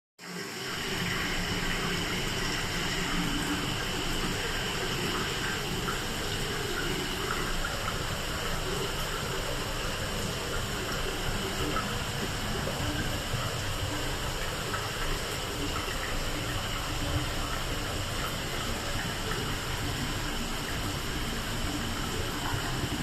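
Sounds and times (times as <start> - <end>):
running water rushing: 0.2 - 23.0.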